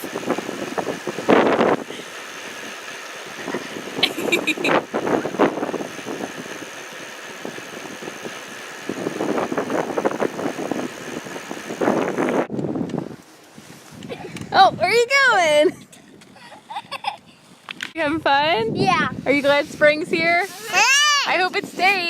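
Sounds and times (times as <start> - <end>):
wind and bicycle rolling noise: 0.0 - 22.0.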